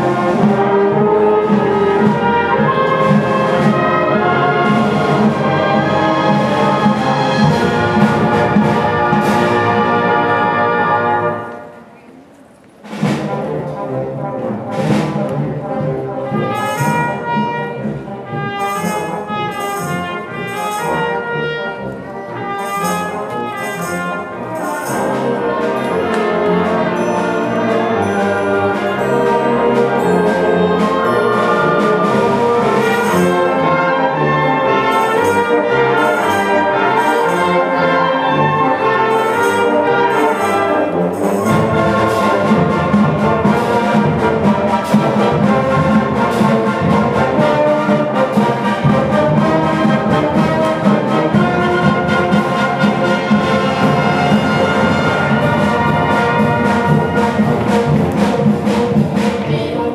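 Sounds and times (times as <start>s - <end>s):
concert band playing: 0.0s - 11.9s, 12.8s - 59.9s
brass instruments: 0.0s - 12.2s, 12.8s - 59.9s.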